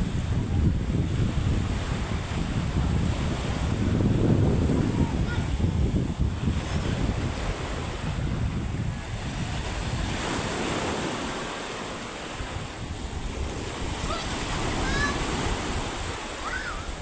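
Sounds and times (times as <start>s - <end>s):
sea surf washing onto beach: 0.0s - 17.0s
wind buffeting microphone: 0.0s - 17.0s.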